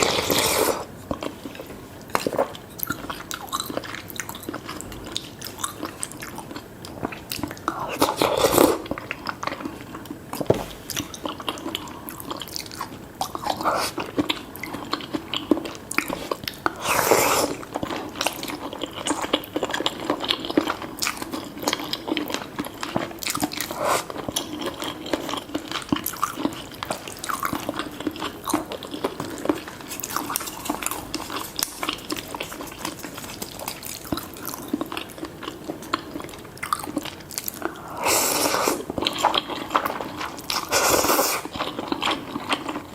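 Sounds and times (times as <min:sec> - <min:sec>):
person chewing with wet mouth sounds: 0:00.0 - 0:42.9.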